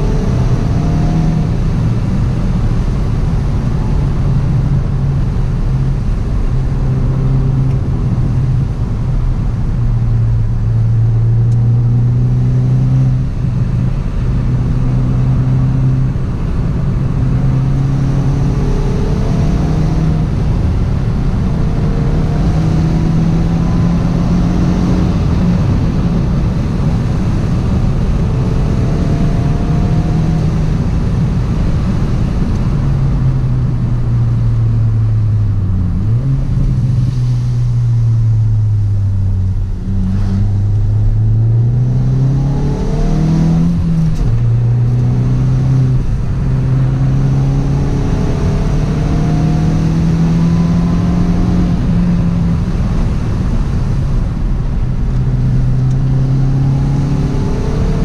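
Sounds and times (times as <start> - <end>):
car engine under throttle: 0.0 - 58.0
road and tyre noise: 0.0 - 58.0.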